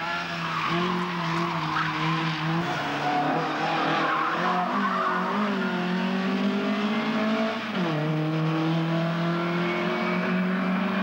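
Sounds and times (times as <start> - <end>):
rally car engine pulling hard: 0.0 - 11.0.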